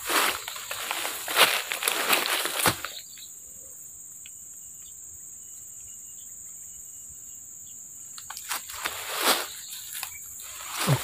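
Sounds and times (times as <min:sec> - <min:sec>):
insect chorus droning: 0:00.0 - 0:11.0.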